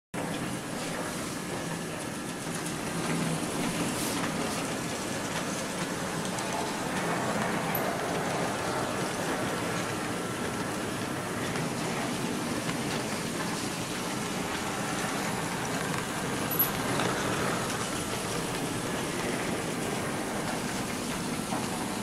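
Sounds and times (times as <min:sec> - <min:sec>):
wheels rattling over rails: 0:01.5 - 0:22.0.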